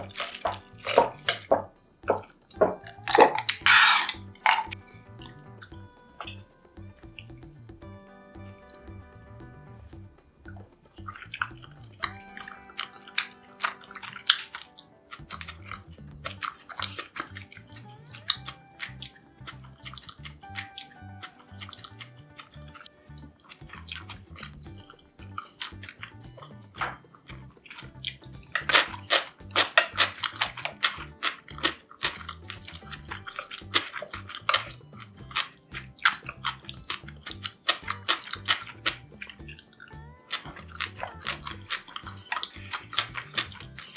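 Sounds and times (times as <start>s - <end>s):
soft background music: 0.0s - 43.9s.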